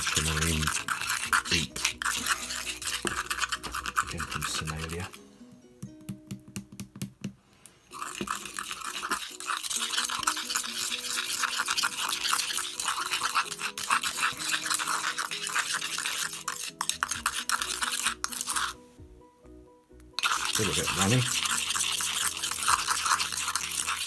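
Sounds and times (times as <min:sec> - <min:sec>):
metal spoon scraping stone mortar: 0:00.0 - 0:05.2, 0:07.9 - 0:18.8, 0:20.2 - 0:24.0.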